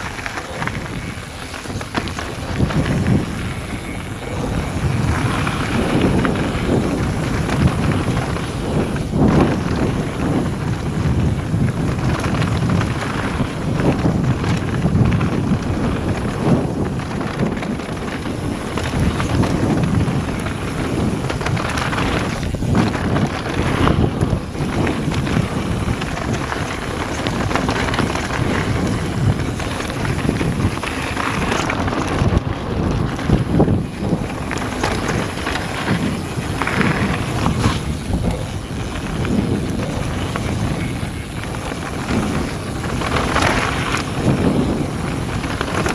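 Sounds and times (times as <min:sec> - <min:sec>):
bike clattering over bumps: 0:00.0 - 0:45.9
tyres rumbling over dirt: 0:00.0 - 0:45.9
wind rushing over microphone: 0:00.0 - 0:45.9.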